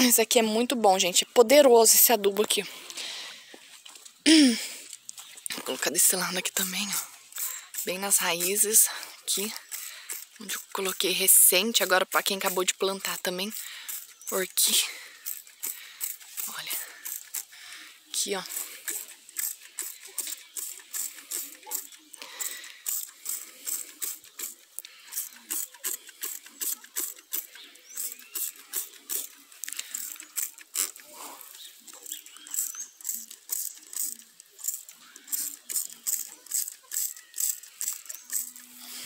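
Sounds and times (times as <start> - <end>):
spray bottle spritzing: 6.1 - 17.5, 18.4 - 39.0.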